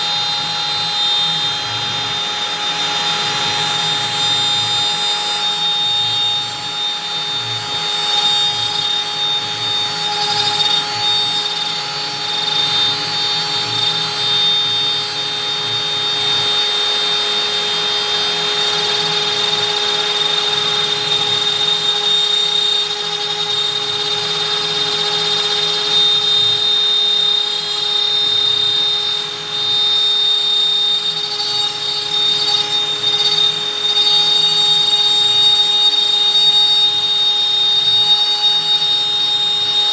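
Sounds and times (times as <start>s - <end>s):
bit cutting wood: 0.0s - 39.9s
router spindle whining: 0.0s - 39.9s.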